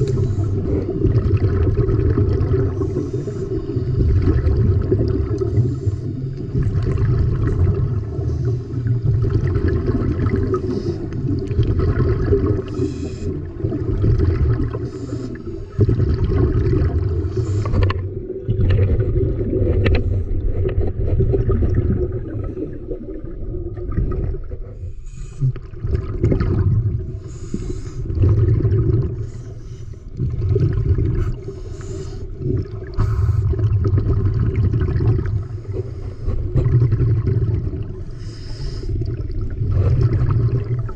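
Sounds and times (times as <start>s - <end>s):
scuba bubbles hissing: 0.0s - 20.5s, 21.2s - 40.9s
muffled underwater rumble: 0.0s - 40.9s.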